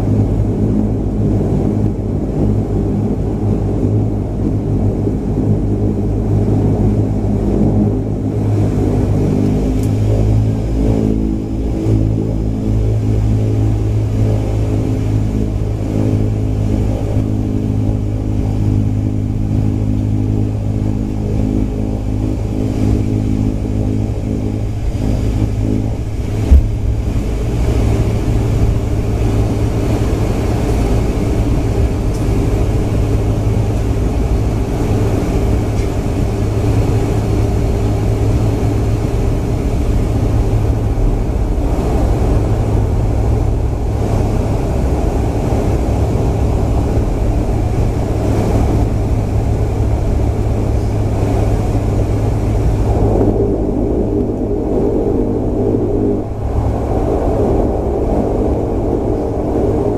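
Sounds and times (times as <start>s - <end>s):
turboprop engines droning in cabin: 0.0s - 59.9s.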